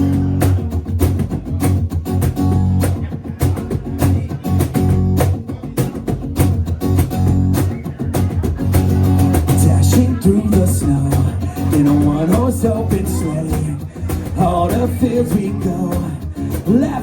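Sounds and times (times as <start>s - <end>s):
guitar playing: 0.0s - 17.0s.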